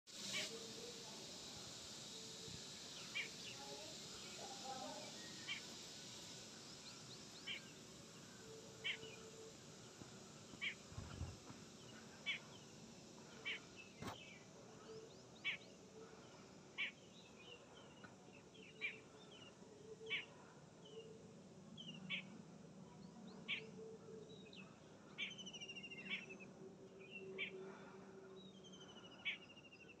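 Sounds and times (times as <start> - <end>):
small bird chirping: 0.1 - 15.9, 16.7 - 21.2, 23.0 - 27.6
faint low hum: 0.2 - 30.0.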